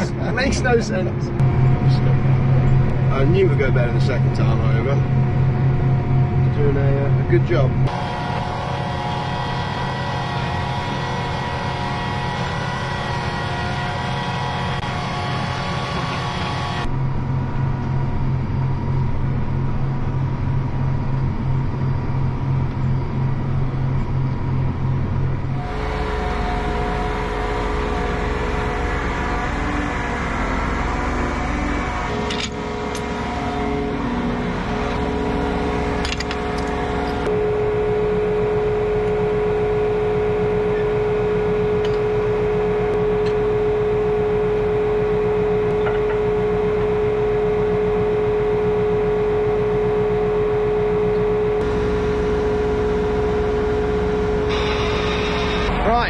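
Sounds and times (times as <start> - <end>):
tractor engine running: 0.0 - 16.9, 24.6 - 56.0
steady whine: 0.0 - 56.0.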